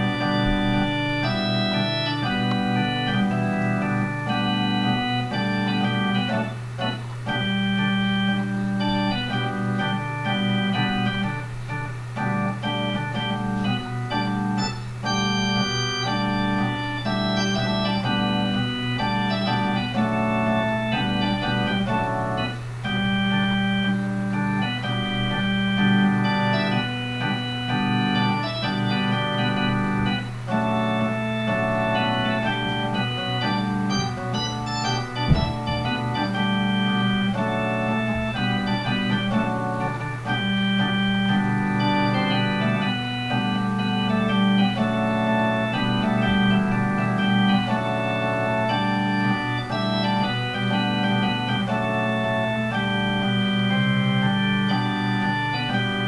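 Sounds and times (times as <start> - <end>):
electronic organ chords: 0.0 - 56.0.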